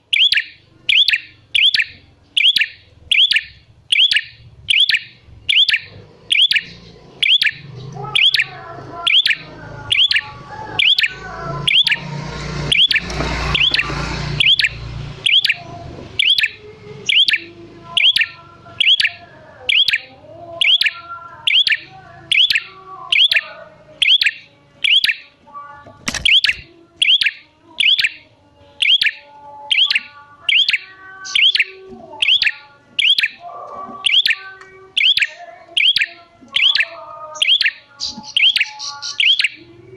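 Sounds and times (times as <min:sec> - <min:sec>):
birds singing softly: 0:00.0 - 0:39.9.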